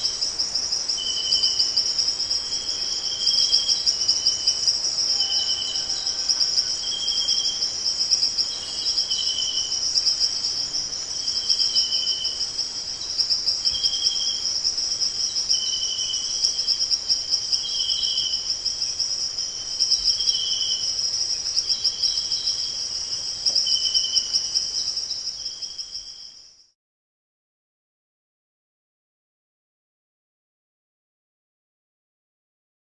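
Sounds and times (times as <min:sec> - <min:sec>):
insect chorus with pulsing trill: 0:00.0 - 0:26.8.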